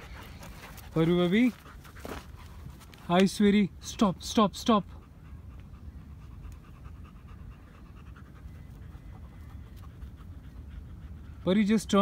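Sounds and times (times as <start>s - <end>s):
dogs panting: 0.0s - 3.1s, 4.7s - 12.0s.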